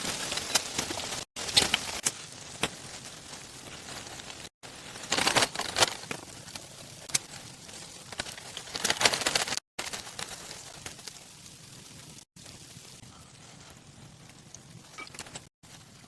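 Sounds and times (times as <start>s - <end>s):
steady hiss: 0.0s - 15.0s
crinkling and crackling: 0.0s - 16.0s.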